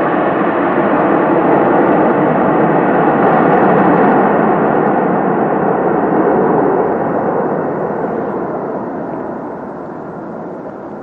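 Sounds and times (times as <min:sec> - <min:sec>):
jet airliner engine rush: 0:00.0 - 0:11.0.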